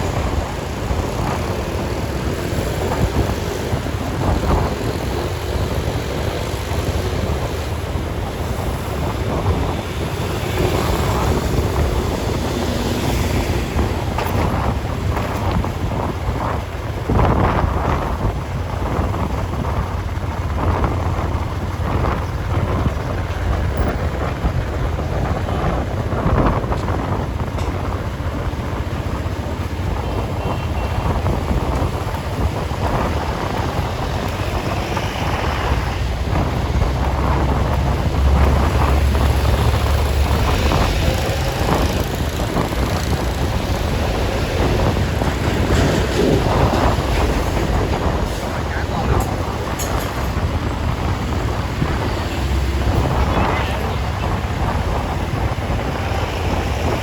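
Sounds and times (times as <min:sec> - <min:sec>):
road vehicle rumble: 0:00.0 - 0:57.0
wind buffeting microphone: 0:00.0 - 0:57.0.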